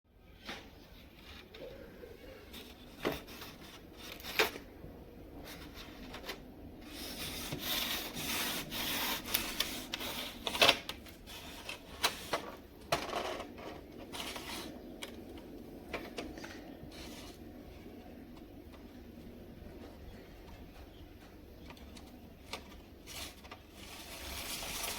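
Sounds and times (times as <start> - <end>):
rubbing and scraping of parts: 0.3 - 4.7, 5.3 - 24.9.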